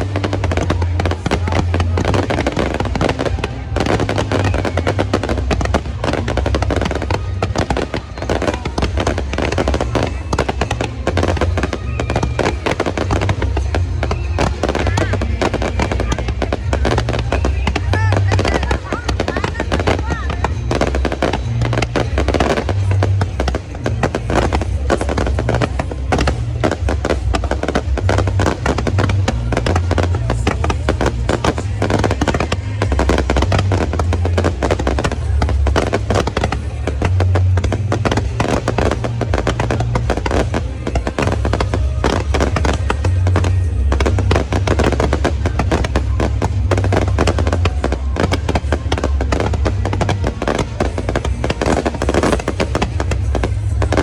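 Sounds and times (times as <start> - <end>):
fireworks bursting and crackling: 0.0 - 54.0
music playing: 0.0 - 54.0.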